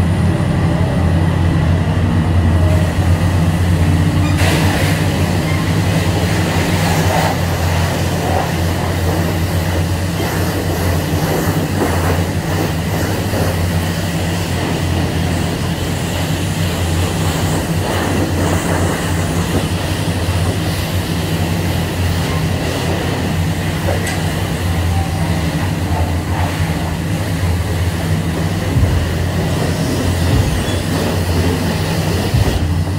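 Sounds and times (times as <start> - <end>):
constant low hum: 0.0 - 32.9
high-pressure water spray: 2.6 - 32.9.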